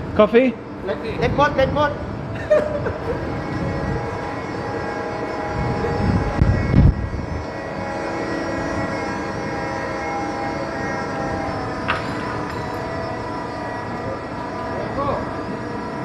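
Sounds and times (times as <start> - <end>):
ship machinery droning: 0.0 - 16.0.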